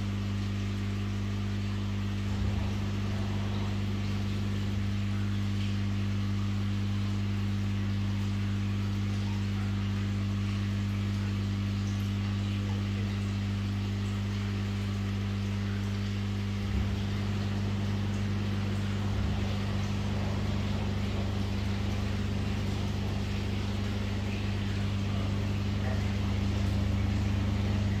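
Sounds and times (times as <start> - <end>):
electric pump hum: 0.0 - 28.0.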